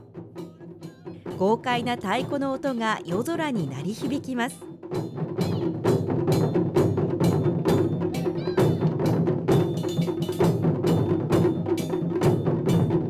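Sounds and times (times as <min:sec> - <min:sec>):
taiko drumming ensemble: 0:00.0 - 0:13.0.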